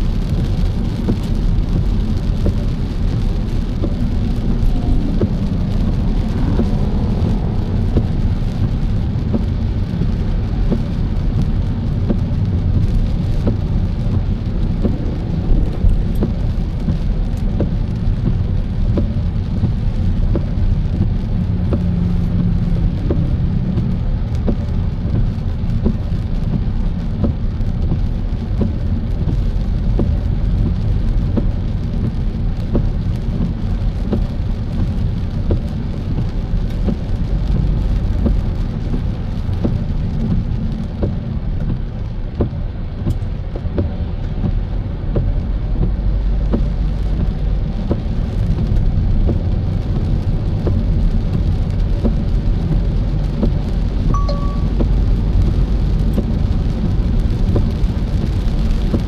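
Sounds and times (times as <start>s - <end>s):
low road rumble: 0.0s - 59.0s
raindrops ticking on car: 0.0s - 59.0s.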